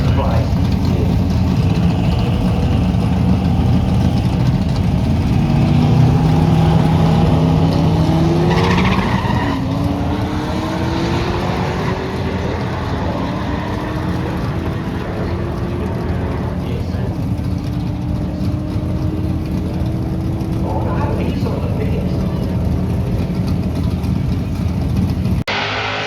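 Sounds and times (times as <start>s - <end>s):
racing cars accelerating: 0.0s - 26.0s.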